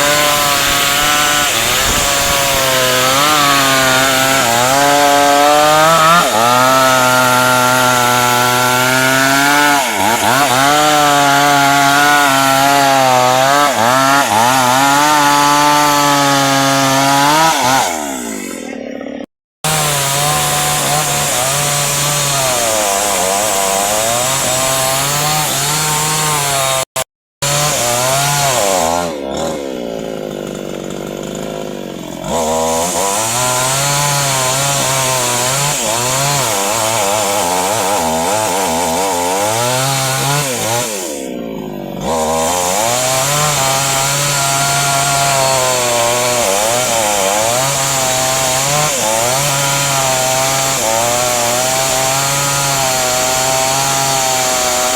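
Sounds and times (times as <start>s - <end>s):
chainsaw cutting hardwood: 0.0s - 54.9s.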